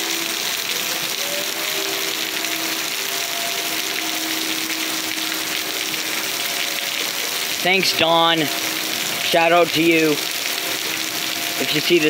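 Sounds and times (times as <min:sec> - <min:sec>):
faint warning sirens: 0:00.0 - 0:12.0
heavy rain hissing: 0:00.0 - 0:12.0.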